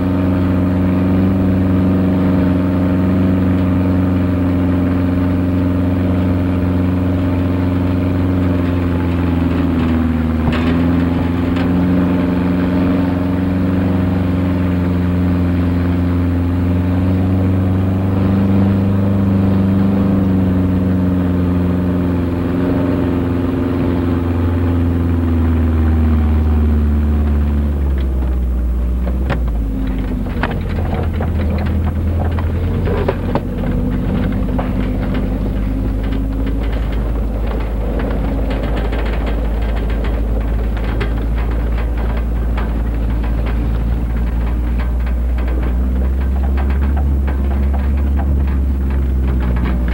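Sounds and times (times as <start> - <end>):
vehicle engine running: 0.0 - 49.9
clicks and crackles: 0.2 - 15.9, 21.9 - 49.9.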